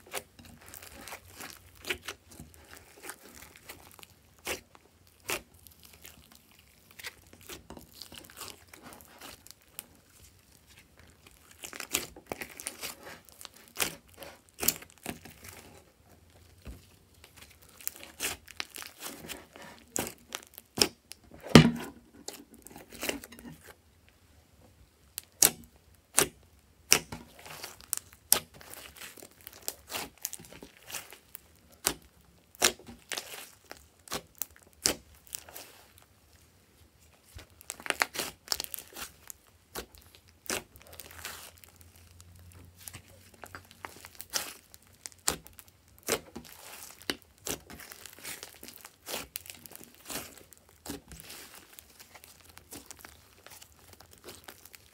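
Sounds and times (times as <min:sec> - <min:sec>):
slime popping and crackling: 0:00.0 - 0:23.5, 0:25.2 - 0:36.1, 0:37.0 - 0:54.9.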